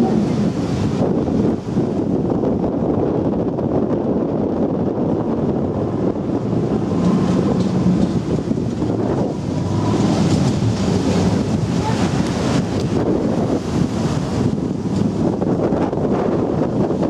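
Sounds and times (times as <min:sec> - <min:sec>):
water rushing: 0:00.0 - 0:17.0
wind buffeting microphone: 0:00.0 - 0:17.0.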